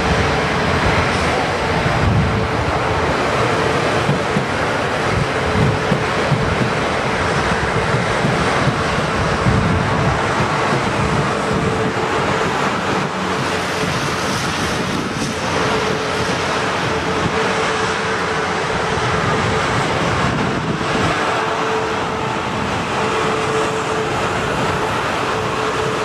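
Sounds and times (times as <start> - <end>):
train humming tone: 0.0 - 26.0
train wheels rumbling on rail: 0.0 - 26.0.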